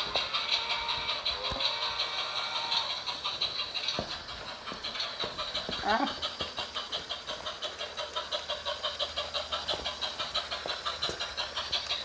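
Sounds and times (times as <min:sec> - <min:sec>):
toy train clattering on track: 0:00.0 - 0:12.0.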